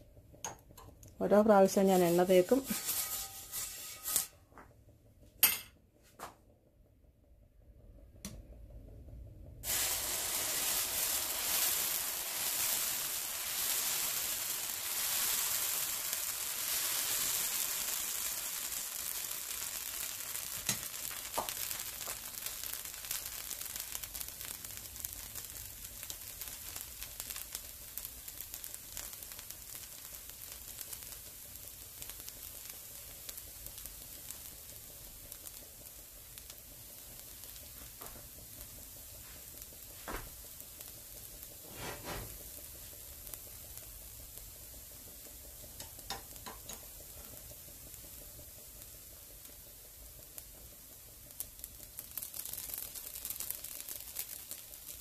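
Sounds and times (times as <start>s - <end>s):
batter sizzling on skillet: 0.0s - 4.7s, 9.4s - 55.0s.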